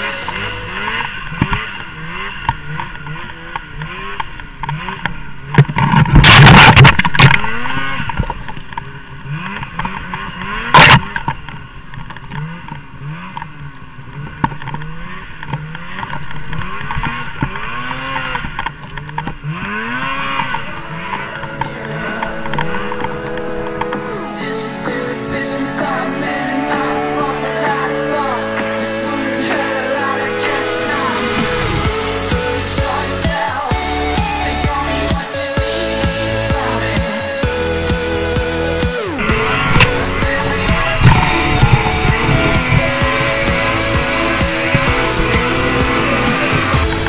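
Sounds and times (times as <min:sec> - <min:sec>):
loud bursts of noise: 0:00.0 - 0:47.0
snowmobile engine revving: 0:00.0 - 0:47.0.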